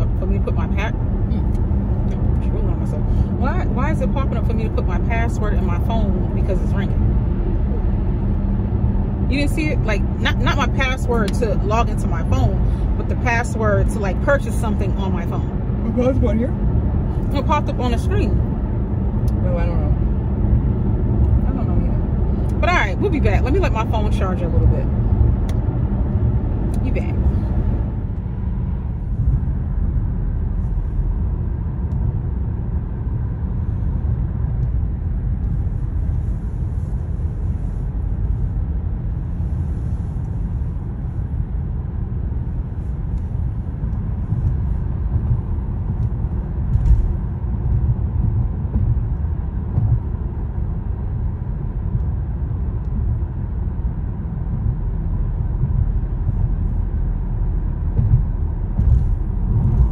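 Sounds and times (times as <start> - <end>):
car road rumble from inside: 0.0 - 59.9.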